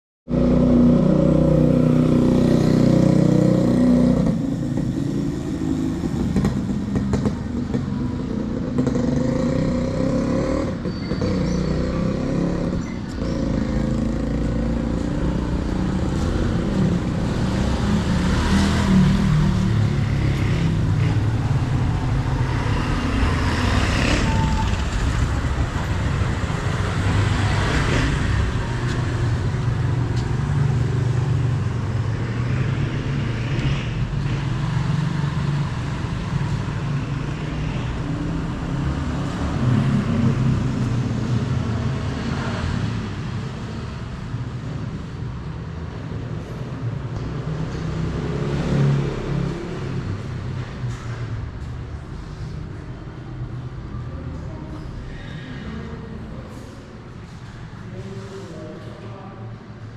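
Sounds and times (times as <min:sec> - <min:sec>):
road traffic noise: 0:00.3 - 0:59.9.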